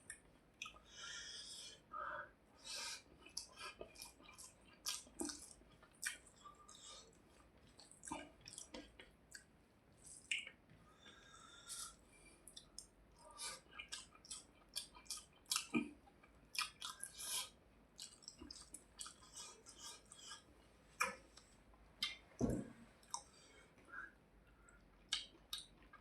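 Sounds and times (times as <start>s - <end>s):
person chewing food: 0.0s - 1.0s, 2.8s - 22.2s, 23.0s - 23.6s, 24.4s - 26.0s.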